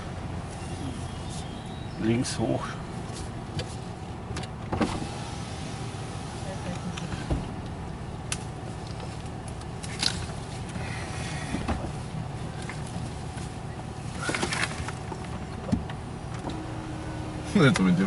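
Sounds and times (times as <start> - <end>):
branches scraping truck: 0.0 - 18.0
truck engine low rumble: 0.0 - 18.0.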